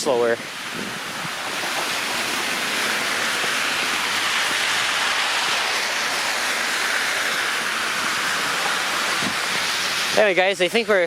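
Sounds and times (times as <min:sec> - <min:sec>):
tyres hissing on wet road: 0:00.0 - 0:11.0.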